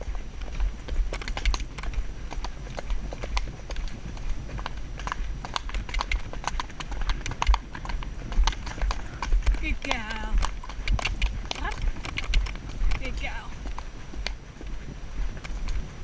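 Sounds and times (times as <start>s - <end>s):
horse hoofbeats on dirt: 0.0s - 16.0s.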